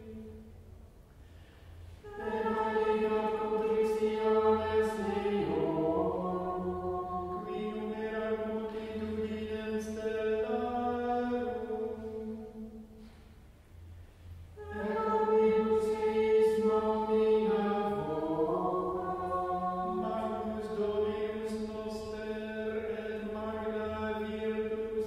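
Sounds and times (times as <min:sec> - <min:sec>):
small choir chanting plainchant: 0:02.0 - 0:12.9, 0:14.6 - 0:25.0.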